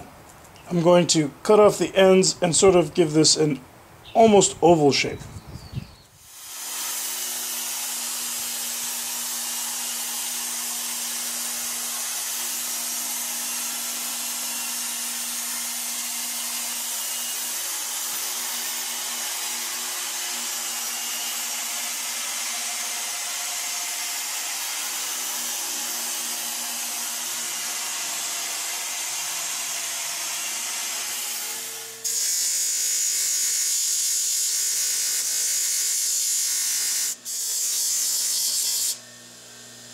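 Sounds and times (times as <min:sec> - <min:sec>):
band saw cutting wood: 0:06.2 - 0:39.9
bench grinder spinning: 0:06.3 - 0:39.9.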